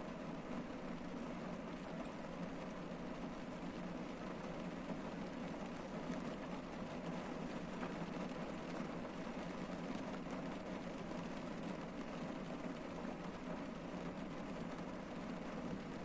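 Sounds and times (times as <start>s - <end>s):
rain on car roof: 0.1s - 16.0s.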